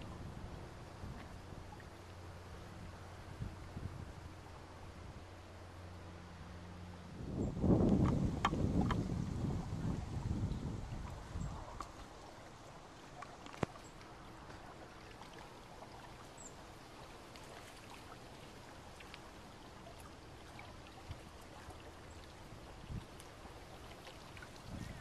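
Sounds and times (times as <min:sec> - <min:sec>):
water lapping and trickling: 0:00.0 - 0:25.0.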